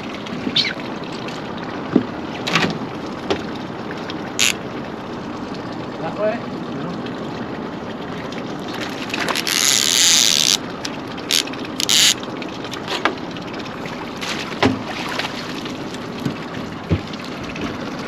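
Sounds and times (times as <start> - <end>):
boat motor and water: 0.0 - 18.0.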